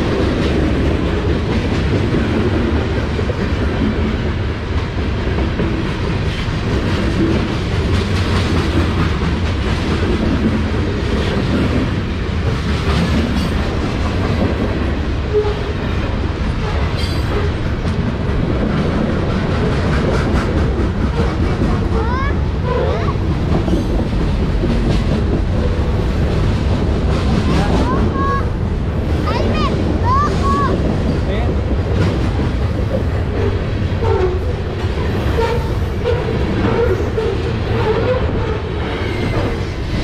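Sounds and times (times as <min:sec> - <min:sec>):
freight train rumbling past: 0:00.0 - 0:40.0
steel wheels clattering on rails: 0:00.0 - 0:40.0.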